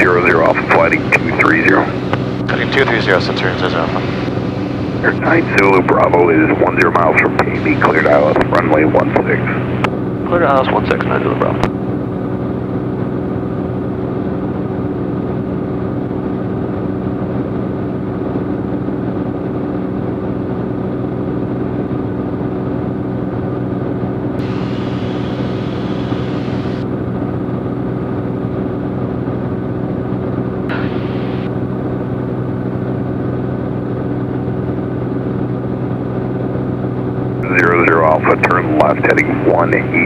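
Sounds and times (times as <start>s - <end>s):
propeller plane engine droning: 0.0s - 40.0s.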